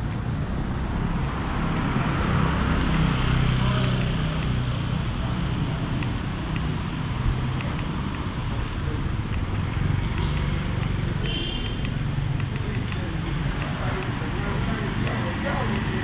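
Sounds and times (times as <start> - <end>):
street hum: 0.0 - 16.0
vehicle engines running: 0.0 - 16.0.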